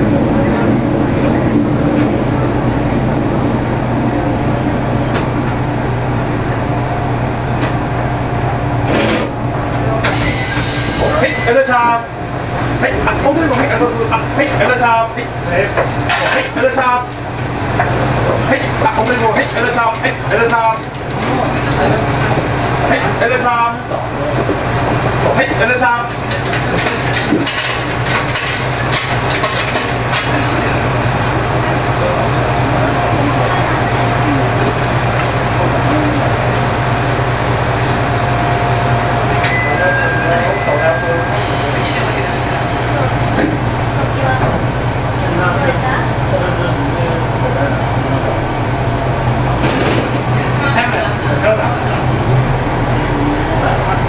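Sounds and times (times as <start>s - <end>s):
diesel train engine droning: 0.0s - 54.0s.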